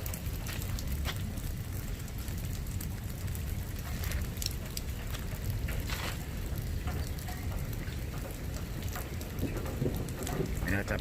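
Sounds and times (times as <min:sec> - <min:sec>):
light rain falling: 0:00.0 - 0:11.0
steady low rumble: 0:00.0 - 0:11.0
water drips and splats: 0:00.0 - 0:11.0.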